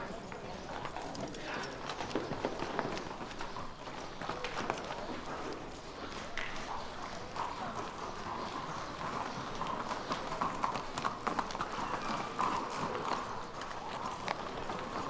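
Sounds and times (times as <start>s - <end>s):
hooves clip-clopping on stone: 0.0s - 15.0s.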